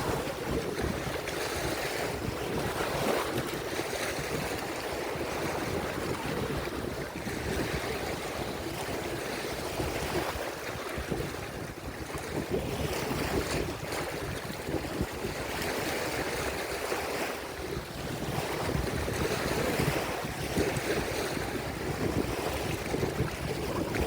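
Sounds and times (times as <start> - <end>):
waves washing on shore: 0.0 - 24.0
wind buffeting microphone: 0.0 - 24.0.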